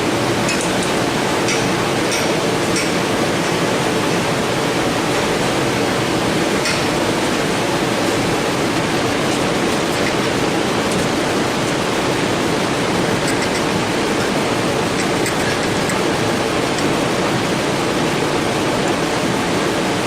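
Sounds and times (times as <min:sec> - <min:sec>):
heater blowing: 0:00.0 - 0:20.0.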